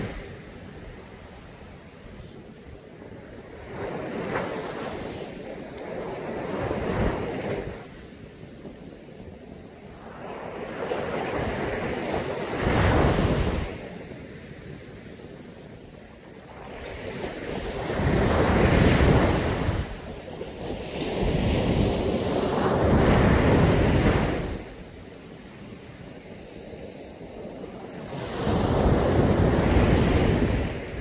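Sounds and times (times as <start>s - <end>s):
sea waves breaking on beach: 0.0s - 31.0s.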